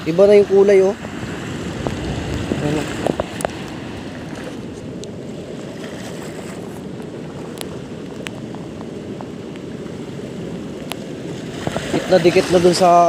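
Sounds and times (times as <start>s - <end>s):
waves washing over pebbles: 0.0s - 13.0s
wind on the microphone: 0.0s - 13.0s.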